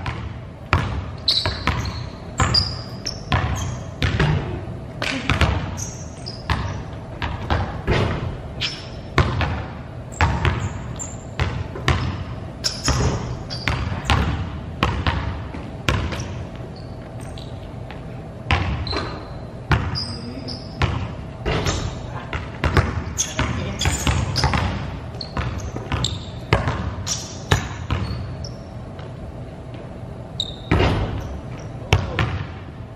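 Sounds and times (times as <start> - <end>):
basketball bouncing on wooden floor: 0.0 - 5.8, 6.5 - 8.4, 9.2 - 16.4, 17.2 - 20.0, 20.8 - 28.3, 30.6 - 32.6
sneaker squeaks: 0.0 - 32.5.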